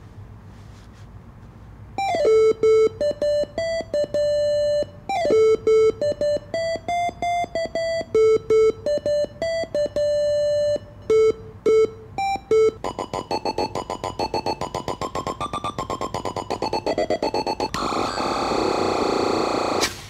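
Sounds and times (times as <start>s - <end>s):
buzzy electronic synthesizer beeps: 2.0s - 19.8s.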